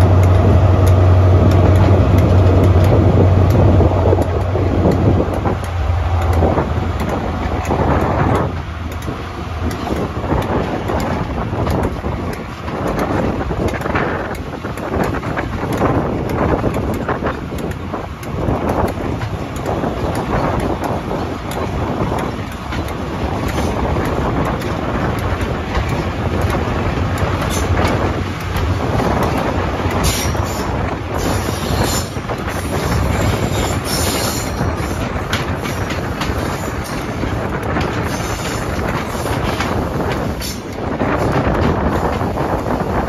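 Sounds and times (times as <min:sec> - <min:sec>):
rail-joint clicks: 0:00.0 - 0:43.0
train wheels rumbling: 0:00.0 - 0:43.0
wind rushing over microphone: 0:00.0 - 0:43.0.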